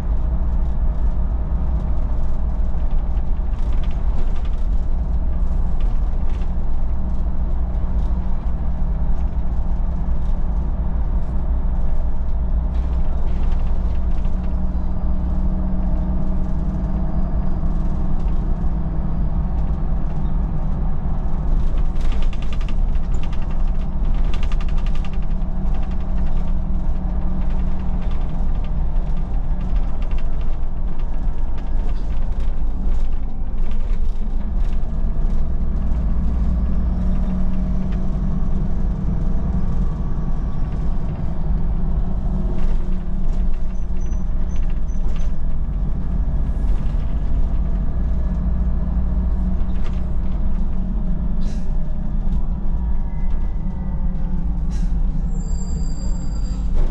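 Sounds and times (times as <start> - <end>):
bus engine drone: 0.0 - 56.9
bus interior creaking and rattling: 0.0 - 56.9.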